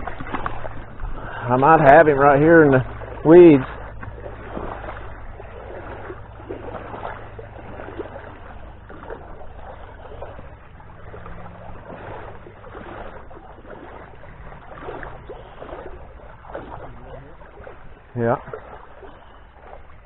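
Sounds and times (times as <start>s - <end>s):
low steady rumble: 0.0s - 20.0s
river water running and splashing: 0.0s - 20.0s.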